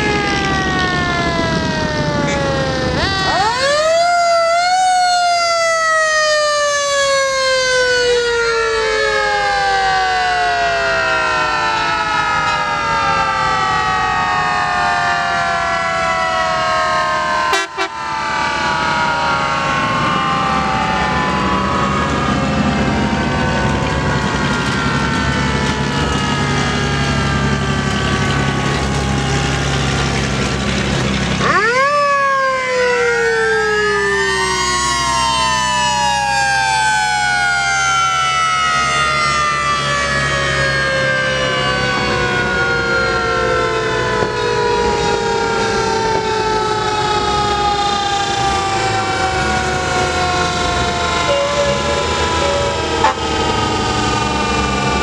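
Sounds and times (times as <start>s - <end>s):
fire truck sirens: 0.0s - 55.0s
truck engines running: 0.0s - 55.0s.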